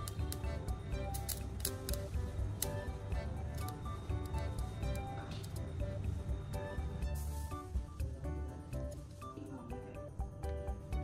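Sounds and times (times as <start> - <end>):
music with bass beat: 0.0 - 9.1.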